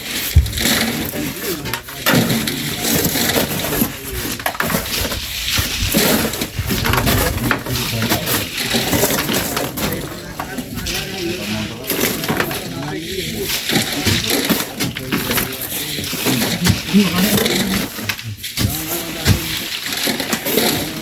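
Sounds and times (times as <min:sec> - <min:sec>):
shovels scraping sand: 0:00.0 - 0:21.0.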